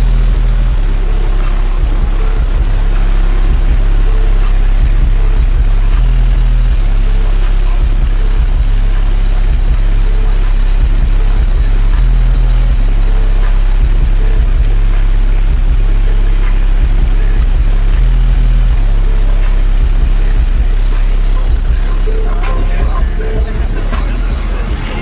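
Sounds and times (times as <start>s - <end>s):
bass-heavy music from subwoofers: 0.0s - 25.0s.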